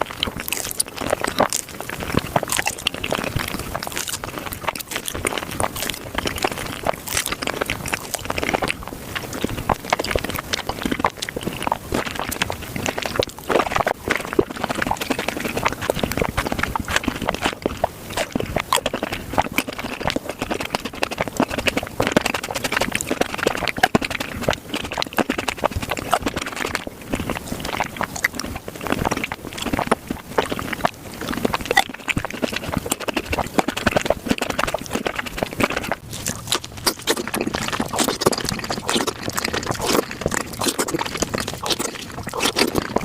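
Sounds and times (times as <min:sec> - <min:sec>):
biting crunching and chewing: 0:00.0 - 0:43.0.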